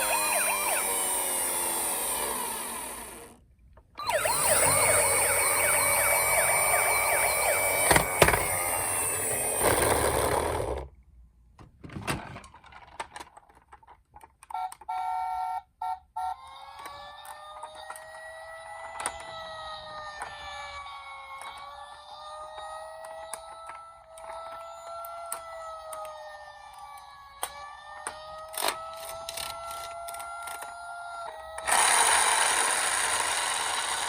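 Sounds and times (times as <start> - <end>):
toy car electronic sirens: 0.0 - 3.4, 4.0 - 10.7, 14.5 - 34.0.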